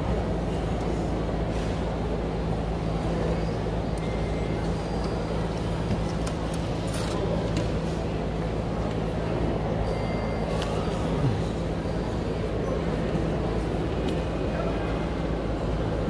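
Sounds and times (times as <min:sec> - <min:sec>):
faint voices: 0:00.0 - 0:16.0.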